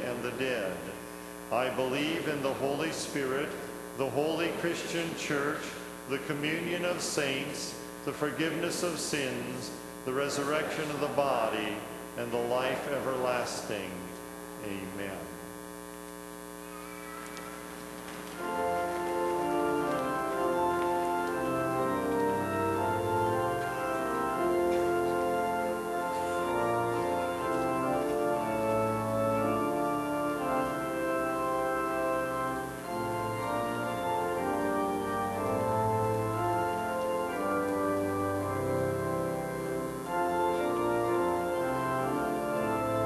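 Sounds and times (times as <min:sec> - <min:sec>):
church organ playing slow chords: 0:00.0 - 0:43.0.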